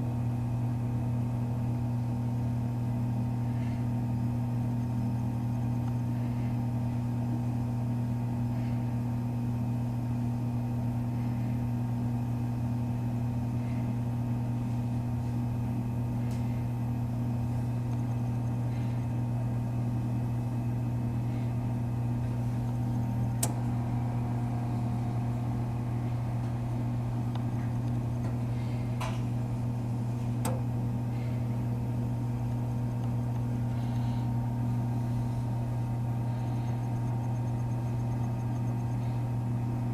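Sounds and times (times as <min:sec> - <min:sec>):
toaster oven humming: 0:00.0 - 0:39.9.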